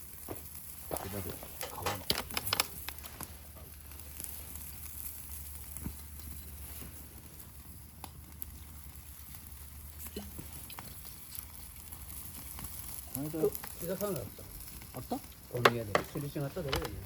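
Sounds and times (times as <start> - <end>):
campfire crackles and pops: 0.0 - 17.0.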